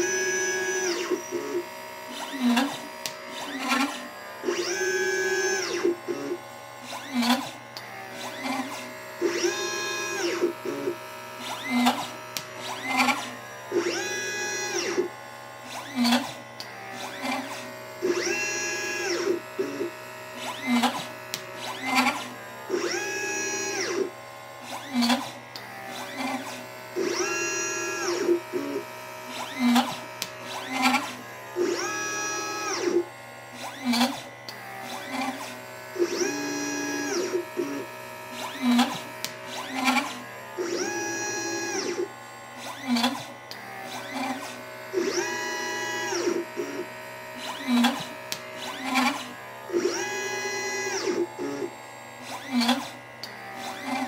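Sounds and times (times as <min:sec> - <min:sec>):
stepper motors whining: 0:00.0 - 0:54.0.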